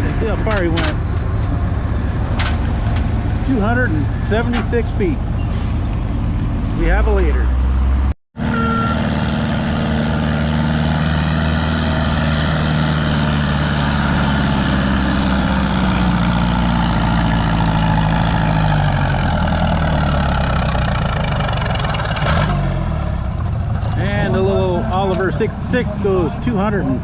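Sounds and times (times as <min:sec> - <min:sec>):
tractor engine under load: 0:00.0 - 0:07.9, 0:08.5 - 0:27.0.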